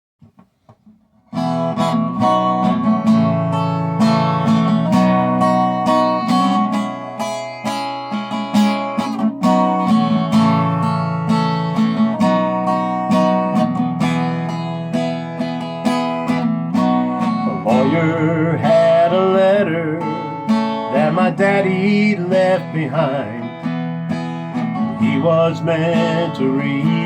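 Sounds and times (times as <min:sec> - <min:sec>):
acoustic guitar strumming chords: 0:00.3 - 0:27.0.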